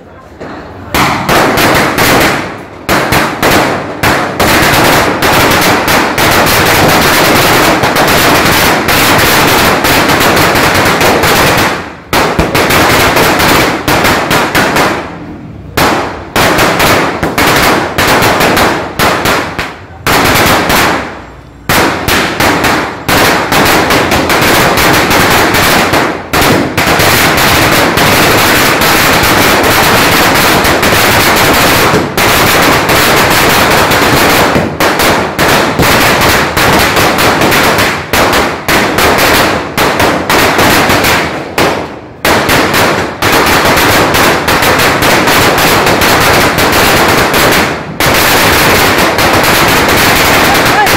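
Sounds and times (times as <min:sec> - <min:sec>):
firecrackers bursting: 0:00.0 - 0:50.9.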